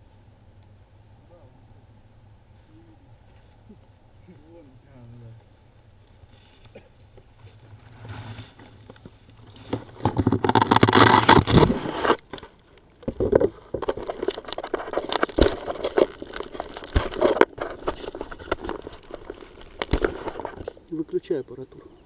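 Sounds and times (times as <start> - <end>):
grass rustling against microphone: 0.0 - 21.7.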